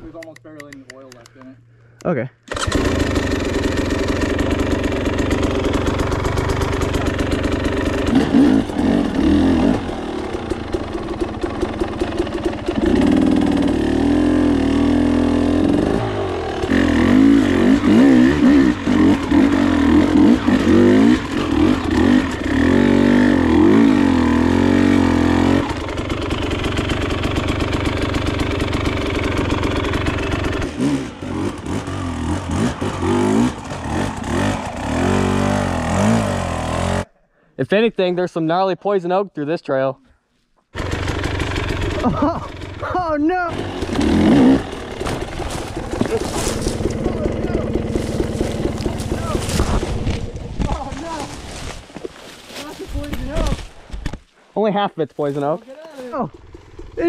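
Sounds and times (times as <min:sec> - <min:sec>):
dirt bike engine revving: 0:02.5 - 0:37.1, 0:40.8 - 0:51.4, 0:56.1 - 0:57.0.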